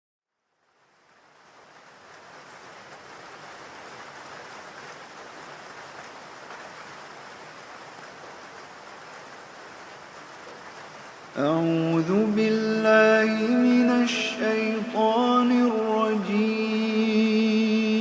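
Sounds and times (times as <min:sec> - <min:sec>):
rain falling: 0:00.4 - 0:18.0.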